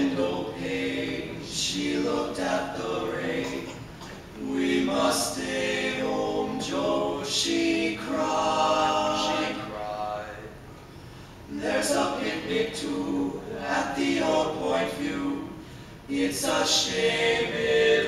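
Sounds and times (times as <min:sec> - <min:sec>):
male quartet singing a cappella: 0:00.0 - 0:10.7, 0:11.5 - 0:18.0.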